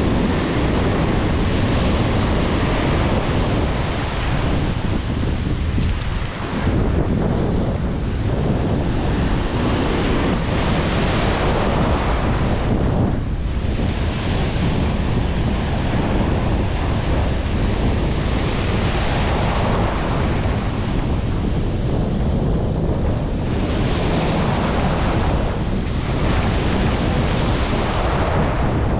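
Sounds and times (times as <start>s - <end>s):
ocean surf washing: 0.0s - 28.9s
wind buffeting microphone: 0.0s - 28.9s.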